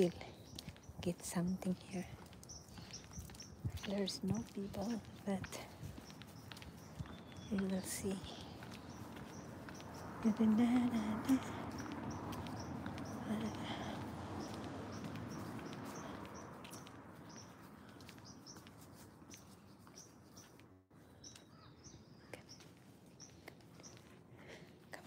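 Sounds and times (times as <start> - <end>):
faint outdoor rustle: 0.0 - 25.0
small bird chirping: 0.1 - 24.2.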